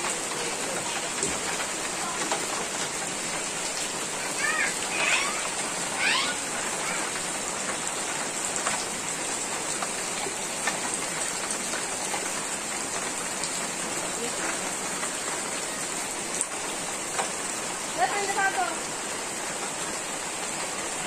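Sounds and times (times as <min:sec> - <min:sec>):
heavy rain hiss: 0:00.0 - 0:21.0
taps of raindrops: 0:00.0 - 0:21.0.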